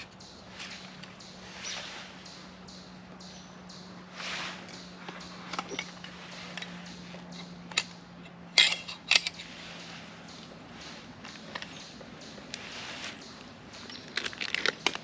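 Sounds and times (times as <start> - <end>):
clicks and knocks of camp gear: 0.0 - 1.8, 4.2 - 15.0.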